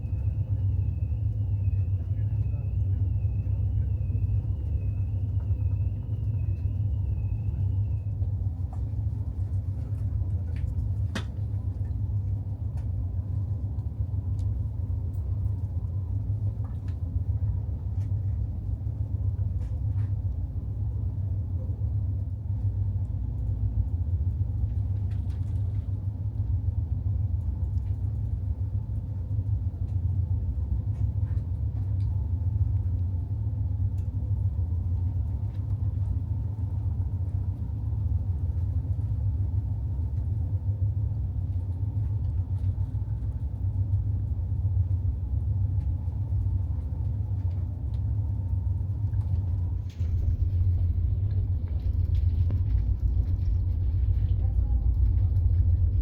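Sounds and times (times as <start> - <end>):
ferry engines rumbling: 0.0 - 56.0.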